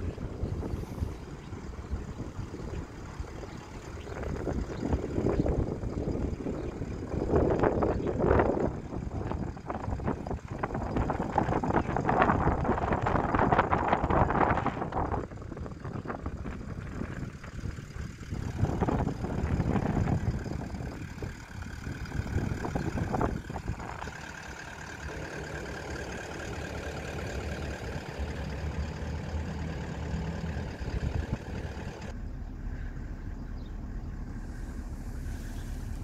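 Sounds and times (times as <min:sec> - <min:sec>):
wind buffeting microphone: 0:00.0 - 0:32.2
low hum: 0:00.0 - 0:36.0.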